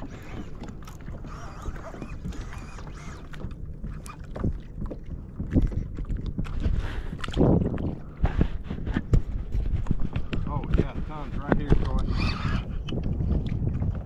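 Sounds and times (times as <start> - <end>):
water against kayak hull: 0.0 - 14.0
wind on microphone: 0.0 - 14.0.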